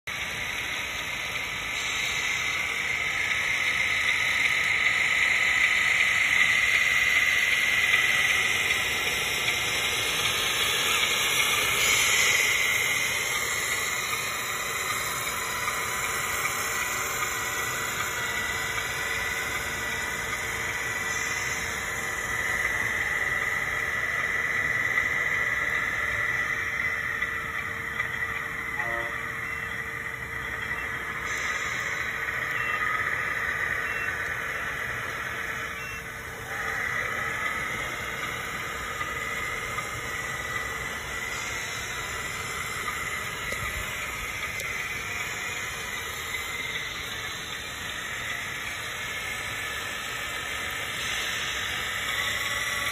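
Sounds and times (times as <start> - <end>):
toy truck motor whining: 0.2 - 52.9.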